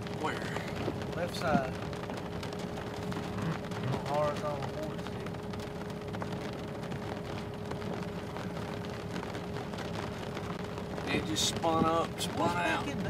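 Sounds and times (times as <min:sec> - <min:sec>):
constant hum: 0:00.0 - 0:13.0
low rumble: 0:00.0 - 0:13.0
rain tapping on windshield: 0:00.0 - 0:13.0.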